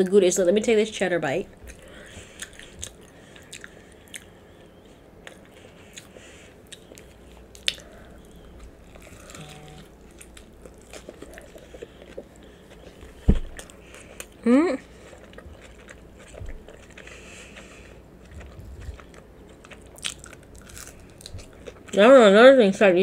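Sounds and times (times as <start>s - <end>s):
person chewing food: 1.6s - 22.0s.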